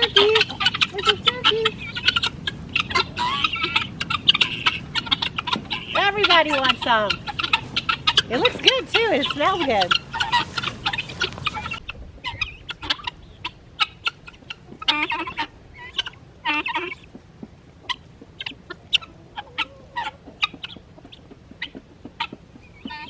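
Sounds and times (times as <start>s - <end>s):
poultry calls: 0.0s - 23.0s
poultry clucking: 0.0s - 23.0s.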